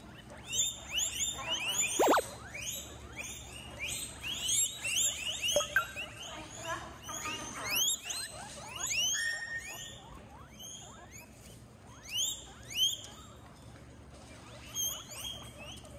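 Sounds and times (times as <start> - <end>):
guinea pigs wheeking: 0.0 - 15.9.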